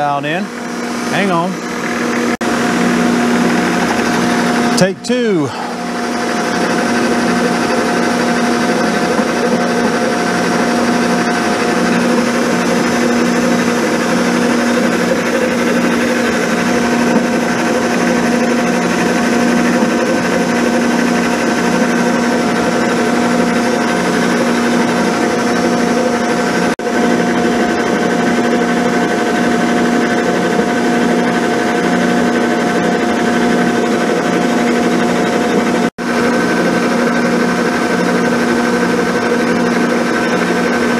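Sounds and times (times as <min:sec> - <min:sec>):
milling machine hum and whine: 0:00.0 - 0:40.9.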